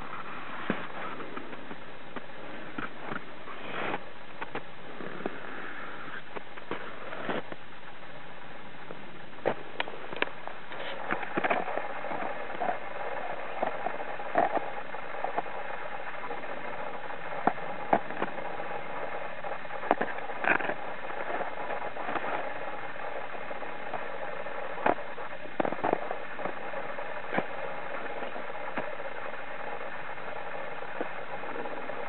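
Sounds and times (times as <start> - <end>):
faint mechanical hum: 0.0 - 32.0
steady hiss: 0.0 - 32.0.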